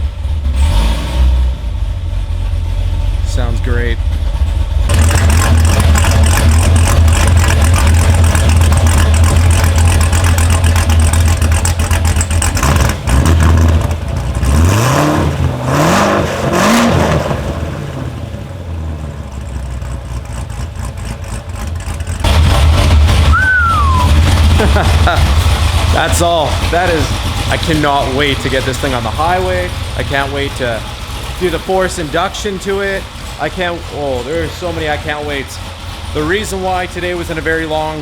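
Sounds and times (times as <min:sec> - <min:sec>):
engine revving: 0:00.0 - 0:19.0, 0:20.9 - 0:38.0
car engine idling: 0:00.0 - 0:38.0.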